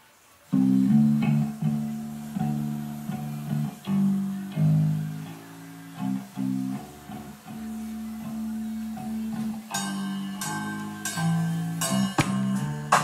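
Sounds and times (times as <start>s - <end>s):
guitar music with bass line: 0.5s - 13.0s.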